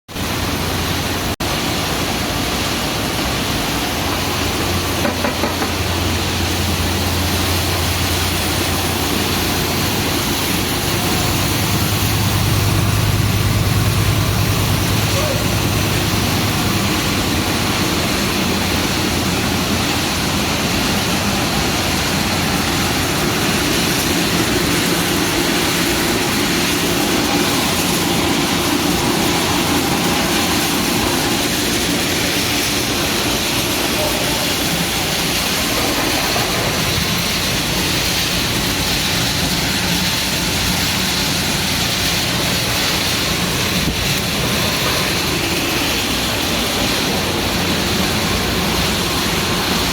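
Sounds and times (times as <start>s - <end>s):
steady machine noise: 0.1s - 49.9s.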